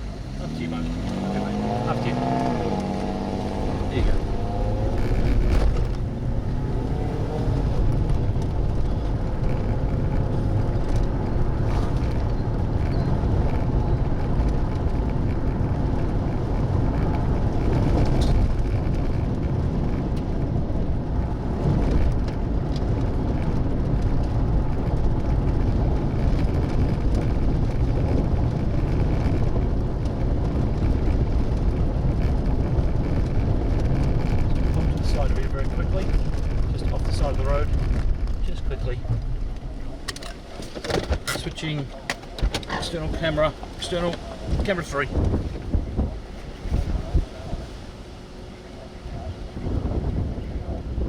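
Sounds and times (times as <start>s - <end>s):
car road and engine rumble: 0.0s - 51.0s.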